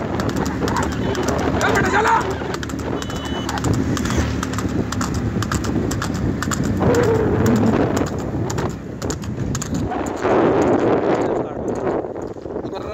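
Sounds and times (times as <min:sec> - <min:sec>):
hooves galloping on asphalt: 0:00.0 - 0:12.9.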